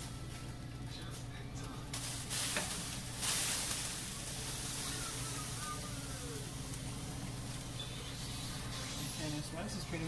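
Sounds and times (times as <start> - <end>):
low buzzing hum: 0.0 - 10.0.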